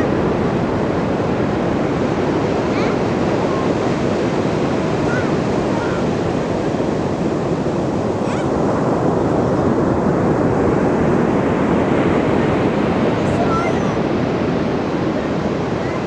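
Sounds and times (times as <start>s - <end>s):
ocean surf washing ashore: 0.0s - 16.0s.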